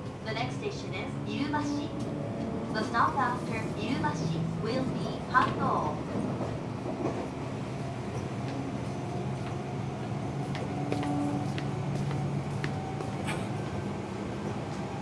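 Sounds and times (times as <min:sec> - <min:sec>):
train running gear rumble: 0:00.0 - 0:15.0.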